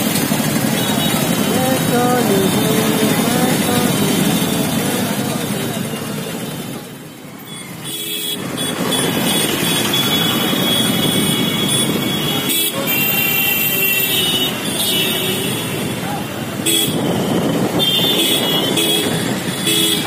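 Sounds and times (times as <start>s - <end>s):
motorcycle engines running: 0.0s - 20.0s
vehicle horns honking: 0.5s - 5.5s, 7.5s - 20.0s.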